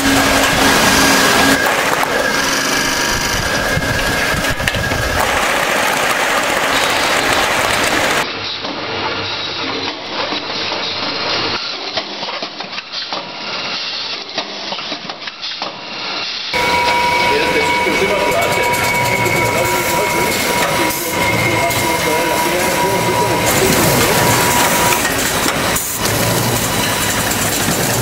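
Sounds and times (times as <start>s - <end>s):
machinery clatter and hum: 0.0s - 28.0s.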